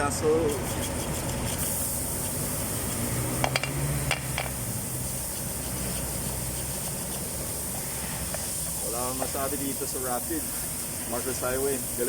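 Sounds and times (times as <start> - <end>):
spray can hissing: 0.2 - 12.0.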